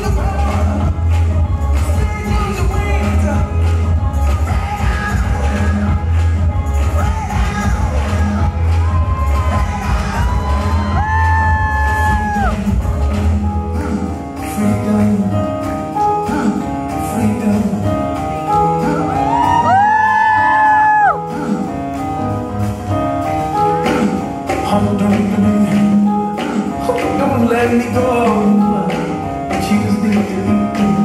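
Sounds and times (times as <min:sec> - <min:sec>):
pop song with singing: 0:00.0 - 0:31.0.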